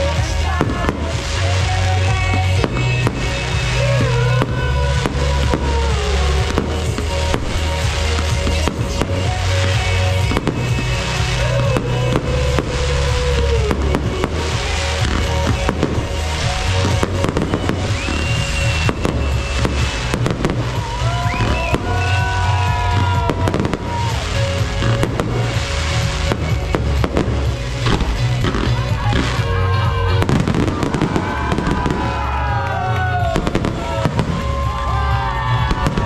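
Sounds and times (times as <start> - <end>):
fireworks bursting and crackling: 0.0 - 36.0
music with heavy bass: 0.0 - 36.0.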